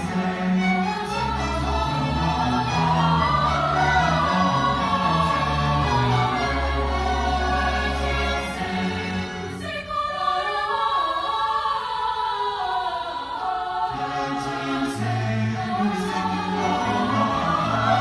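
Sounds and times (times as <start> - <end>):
string orchestra: 0.0 - 11.4, 13.4 - 18.0
choir singing: 0.0 - 18.0.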